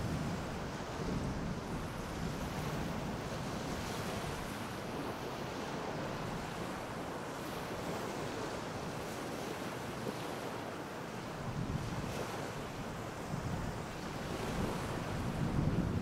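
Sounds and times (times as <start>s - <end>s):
wind rumbling on microphone: 0.0s - 10.5s, 11.1s - 16.0s
waves washing onto beach: 0.0s - 16.0s.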